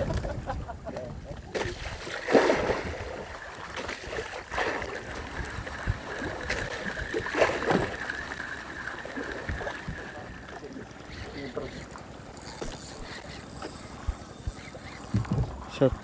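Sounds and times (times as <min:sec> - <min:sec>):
water splashing against boat: 0:00.0 - 0:16.0.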